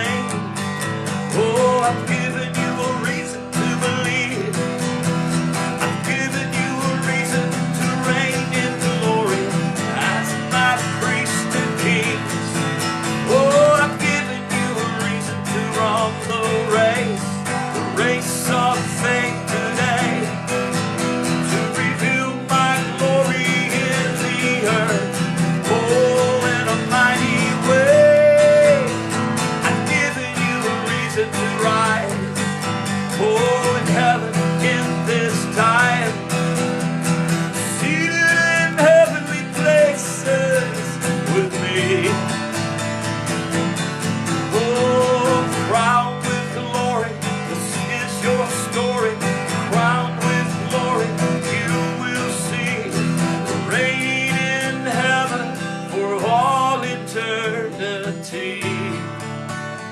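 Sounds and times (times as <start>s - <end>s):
slow acoustic guitar worship music: 0.0s - 59.9s.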